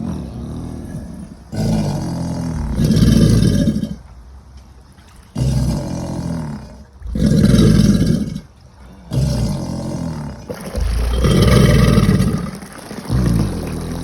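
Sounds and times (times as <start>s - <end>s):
alligators bellowing: 0.0s - 4.1s, 5.0s - 14.0s.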